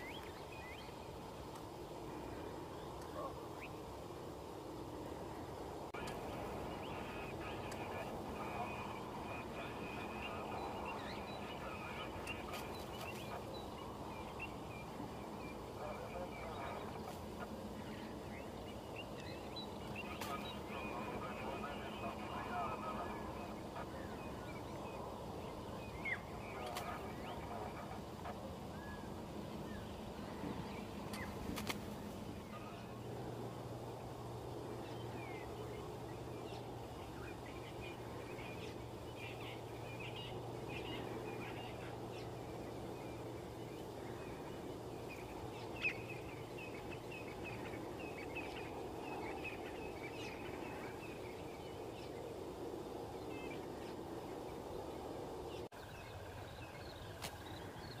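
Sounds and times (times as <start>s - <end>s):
small birds chirping: 0.0s - 3.9s, 6.0s - 58.0s
background noise haze: 0.0s - 58.0s
low steady hum: 0.0s - 58.0s.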